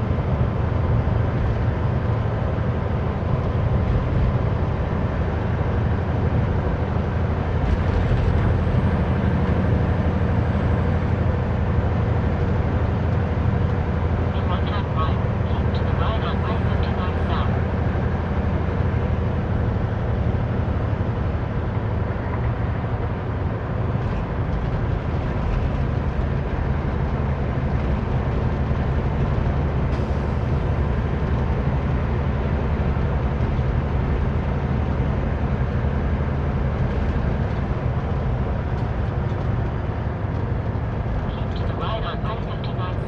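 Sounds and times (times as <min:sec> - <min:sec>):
road noise: 0:00.0 - 0:43.0
truck diesel engine drone: 0:00.0 - 0:43.0.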